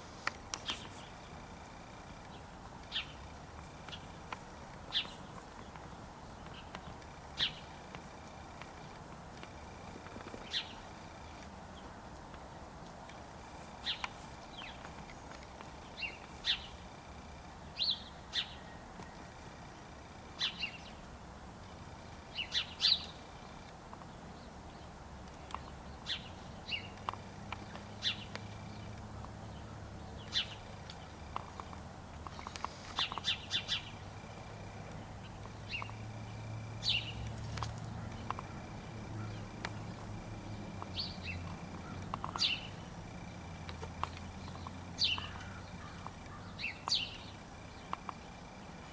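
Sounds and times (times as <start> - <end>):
small birds chirping: 0.2 - 48.9.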